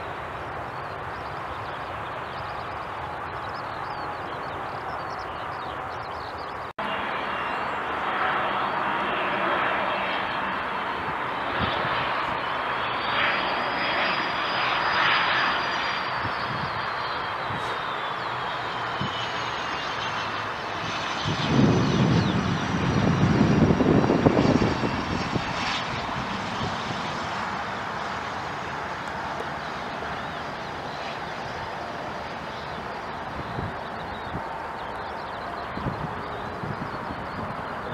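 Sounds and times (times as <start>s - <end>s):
airliner rushing on runway: 0.0s - 37.9s
jet engine whine on approach: 0.0s - 37.9s.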